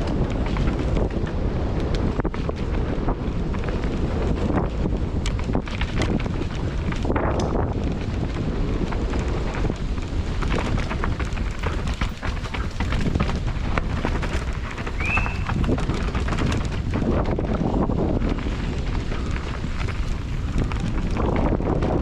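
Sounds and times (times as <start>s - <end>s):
bike rattling over rough ground: 0.0s - 22.0s
wind rushing over microphone: 0.0s - 22.0s.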